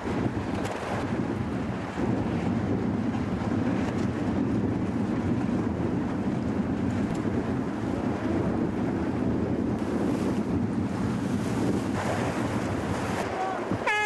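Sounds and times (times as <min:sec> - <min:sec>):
waves and water: 0:00.0 - 0:14.0
wind buffeting microphone: 0:00.0 - 0:14.0.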